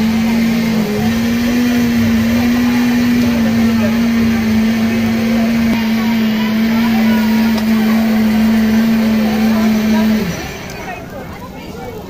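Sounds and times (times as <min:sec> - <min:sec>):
low machine hum: 0:00.0 - 0:11.5.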